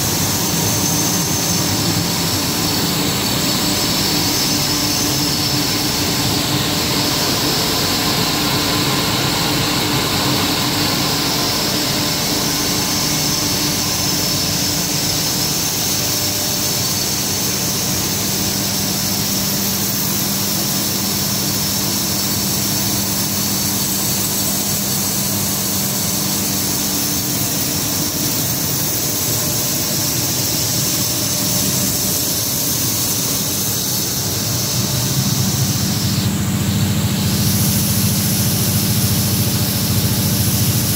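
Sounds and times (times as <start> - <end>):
high machine whine: 0.0 - 40.9
machine hum and hiss: 0.0 - 40.9.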